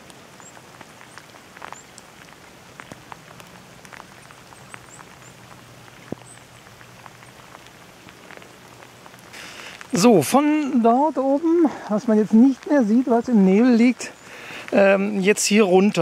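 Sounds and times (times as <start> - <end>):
rain falling on lake: 0.0 - 16.0.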